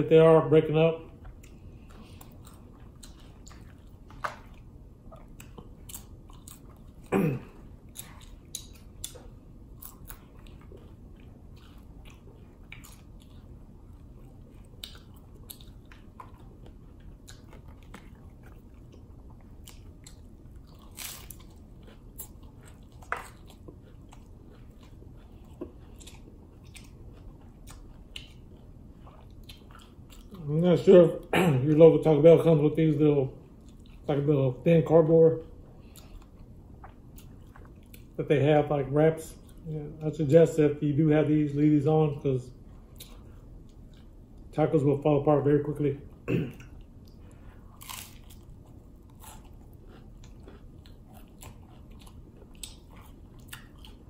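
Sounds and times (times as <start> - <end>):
chewing crunchy taco shell: 0.5 - 32.6, 33.3 - 38.2, 46.0 - 54.0.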